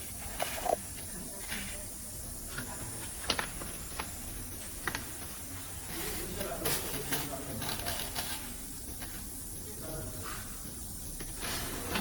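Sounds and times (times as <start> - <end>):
machinery hissing: 0.0 - 12.0.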